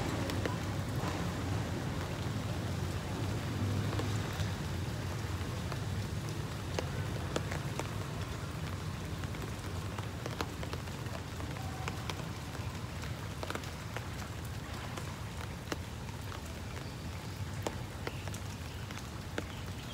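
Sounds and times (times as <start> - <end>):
rain falling: 0.0 - 19.9.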